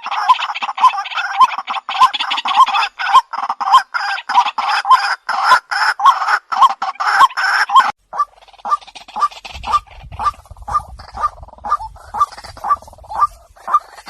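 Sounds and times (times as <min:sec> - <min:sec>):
bird croaking calls: 0:00.0 - 0:14.0.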